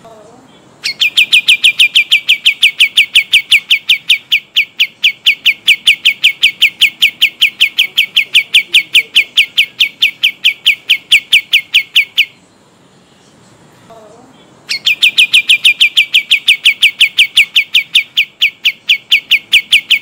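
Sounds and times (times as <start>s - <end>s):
bird singing a long roll: 0.0s - 20.0s.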